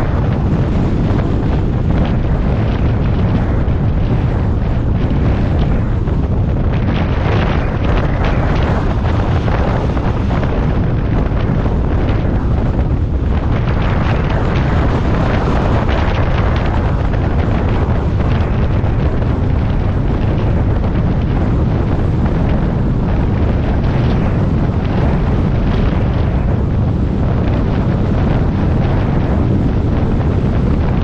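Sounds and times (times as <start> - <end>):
vehicle rumble: 0.0 - 31.0
wind buffeting microphone: 0.0 - 31.0.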